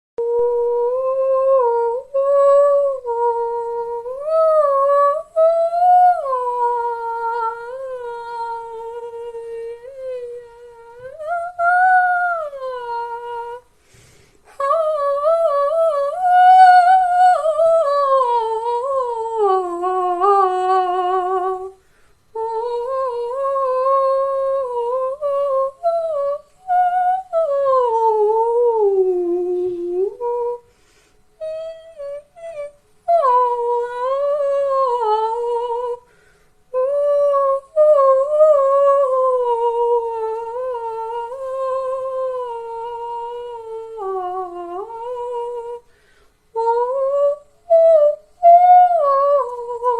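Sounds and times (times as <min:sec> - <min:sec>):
high voice singing wordless melody: 0:00.2 - 0:13.8, 0:14.4 - 0:30.8, 0:31.4 - 0:36.1, 0:36.7 - 0:45.9, 0:46.5 - 0:49.9.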